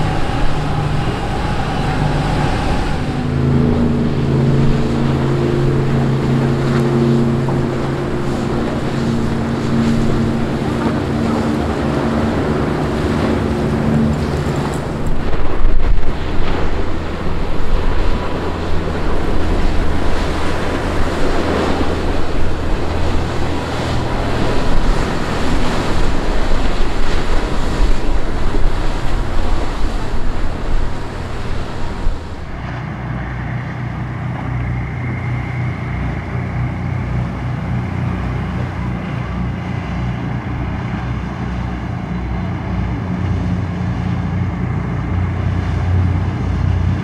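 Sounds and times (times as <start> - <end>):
boat engines running at speed: 0.0 - 47.0
low boat engine drone: 0.0 - 47.0
rush of bow wash: 0.0 - 47.0
wind buffeting microphone: 0.0 - 47.0.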